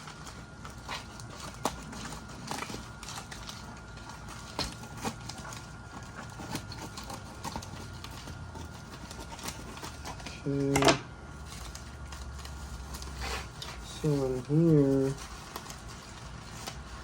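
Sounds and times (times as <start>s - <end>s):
small hard pieces rummaged in box: 0.0s - 17.0s.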